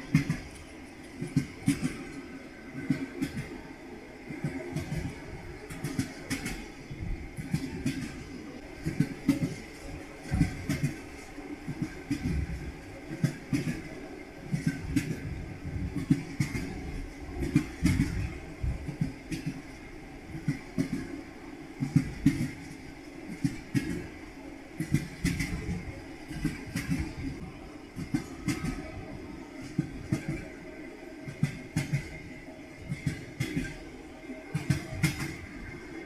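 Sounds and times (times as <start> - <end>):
train wheels clattering over rail joints: 0.0 - 3.6, 4.4 - 21.1, 21.8 - 24.2, 24.8 - 30.6, 31.3 - 33.8, 34.5 - 35.7.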